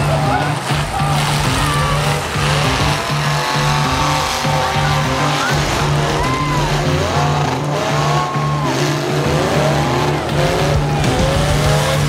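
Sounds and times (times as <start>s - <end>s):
car engines revving: 0.0s - 12.0s
tyres squealing: 0.0s - 12.0s.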